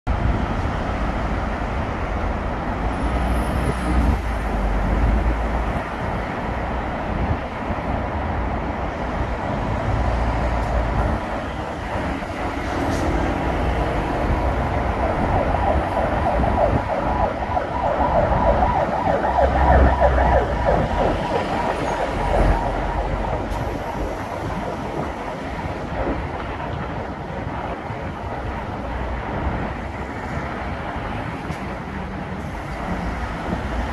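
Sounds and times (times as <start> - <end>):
bus pulling in: 0.1 - 33.9
busy street traffic: 0.1 - 33.9.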